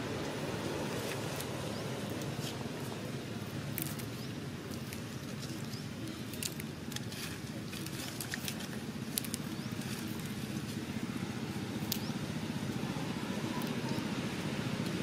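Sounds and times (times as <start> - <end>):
dry leaves crackling: 0.0 - 15.0.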